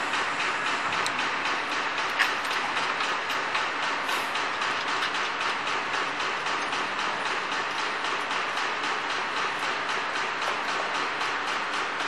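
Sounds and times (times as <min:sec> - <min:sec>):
machinery rhythmic clatter: 0:00.0 - 0:12.0.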